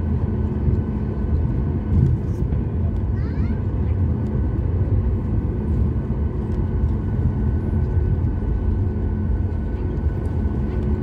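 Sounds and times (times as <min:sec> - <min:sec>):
jet engine low rumble: 0:00.0 - 0:11.0.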